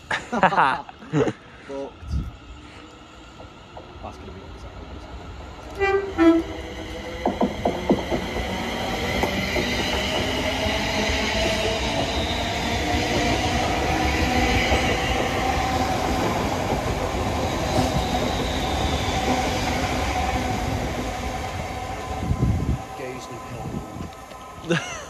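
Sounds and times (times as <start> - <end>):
train wheels rumbling on track: 1.7 - 25.0.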